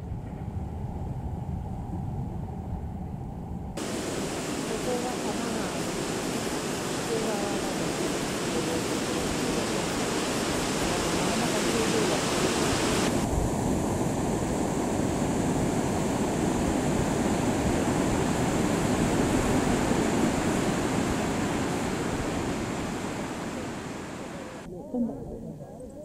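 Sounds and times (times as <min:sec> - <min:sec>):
water rushing over weir: 0:03.8 - 0:24.7.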